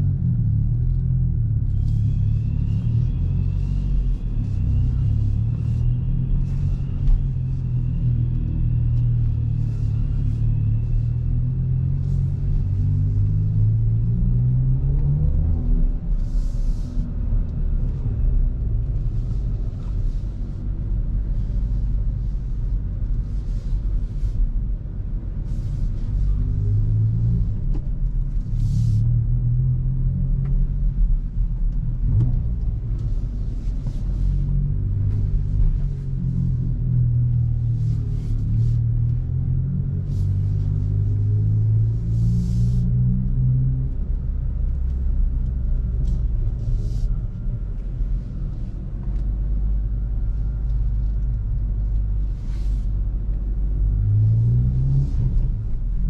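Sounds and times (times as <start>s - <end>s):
car engine and exhaust revving: 0.0s - 56.0s.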